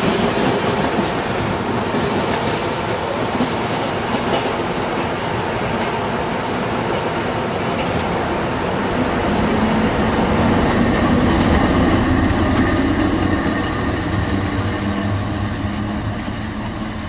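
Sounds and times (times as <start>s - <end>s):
train rail rumble: 0.0s - 17.0s.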